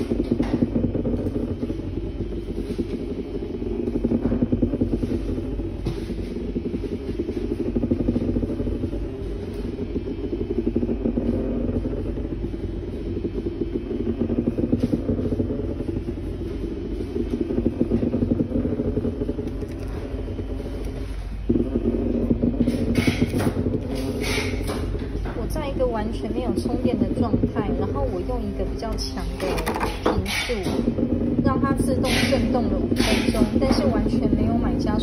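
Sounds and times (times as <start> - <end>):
vibrator buzzing on tabletop: 0.0 - 35.0.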